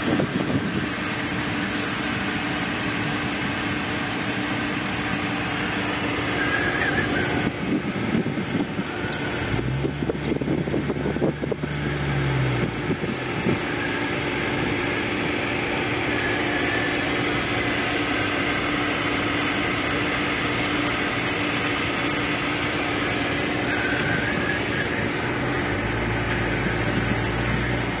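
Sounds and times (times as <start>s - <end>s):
car cabin road noise: 0.0s - 28.0s
low engine tone: 0.0s - 28.0s.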